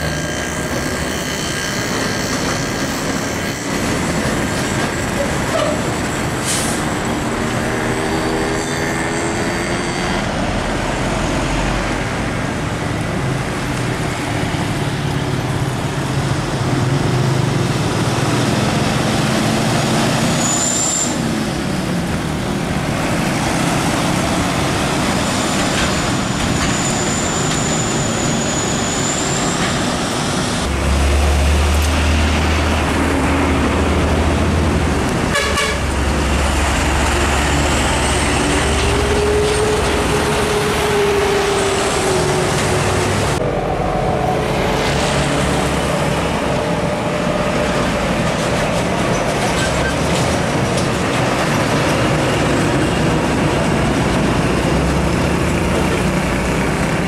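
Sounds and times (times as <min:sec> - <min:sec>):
diesel trucks driving past: 0:00.0 - 0:57.0
steady traffic noise: 0:00.0 - 0:57.0.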